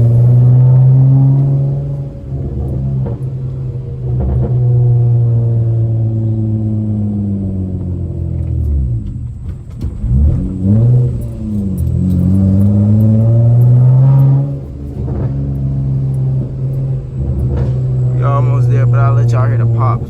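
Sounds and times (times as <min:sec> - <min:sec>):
car exhaust droning: 0:00.0 - 0:20.0.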